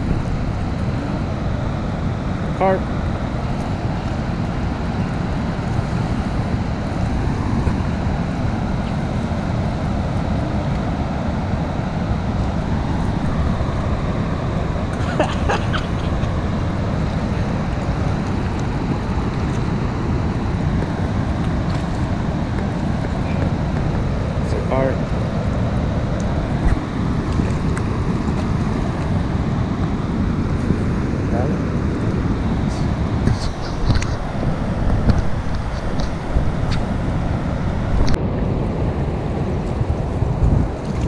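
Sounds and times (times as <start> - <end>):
water rushing through spillway: 0.0 - 41.0
wind on microphone: 0.0 - 41.0.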